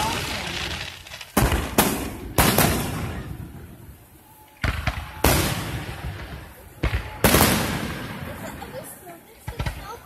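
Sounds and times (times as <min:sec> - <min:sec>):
fireworks booms: 0:00.0 - 0:10.0.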